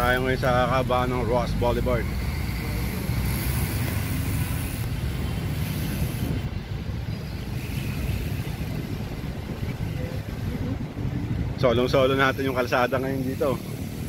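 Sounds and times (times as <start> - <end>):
bicycle tyre noise on pavement: 0.0 - 14.0
wind on microphone: 0.0 - 14.0.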